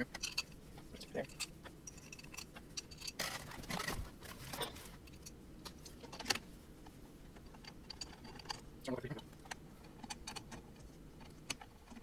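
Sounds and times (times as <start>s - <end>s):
small hardware parts clicking: 0.0s - 6.4s, 7.4s - 8.7s, 9.4s - 12.0s.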